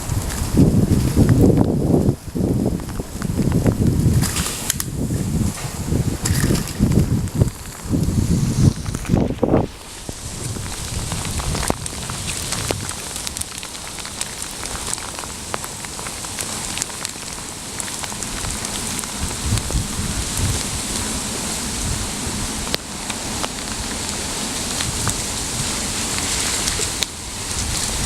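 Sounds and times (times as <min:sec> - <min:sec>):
rain pattering: 0:00.0 - 0:28.0.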